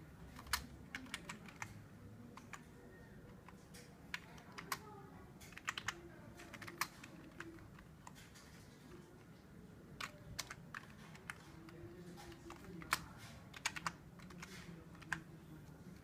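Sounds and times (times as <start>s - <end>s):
keyboard typing: 0.2s - 9.4s, 10.0s - 16.0s.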